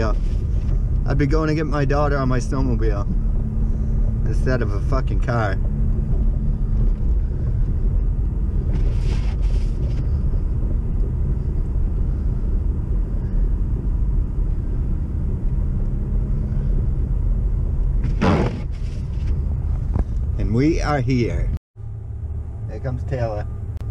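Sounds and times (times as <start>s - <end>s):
car driving on snowy road: 0.0s - 23.9s.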